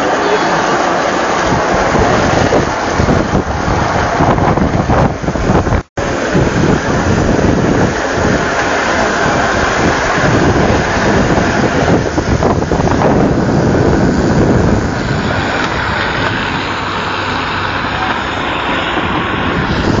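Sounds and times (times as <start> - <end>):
rail trolley rolling on track: 0.0 - 20.0
wind buffeting microphone: 0.0 - 20.0.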